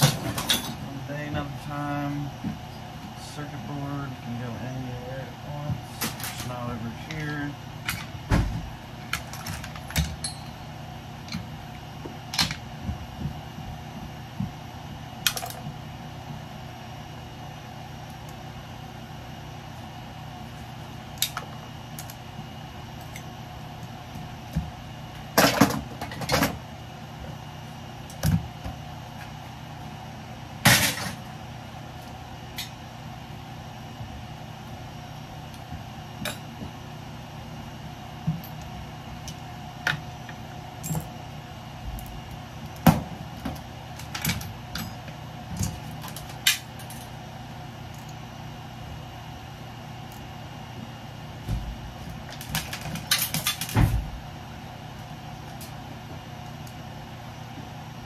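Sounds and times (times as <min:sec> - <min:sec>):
ventilation fan humming: 0:00.0 - 0:58.0.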